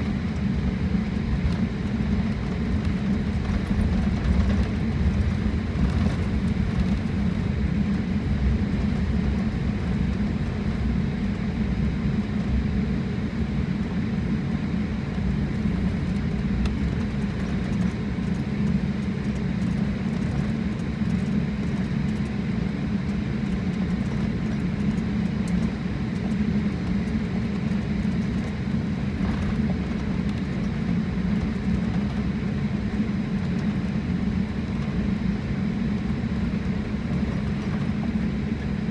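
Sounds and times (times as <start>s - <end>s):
jet airliner cabin rumble: 0.0s - 38.9s.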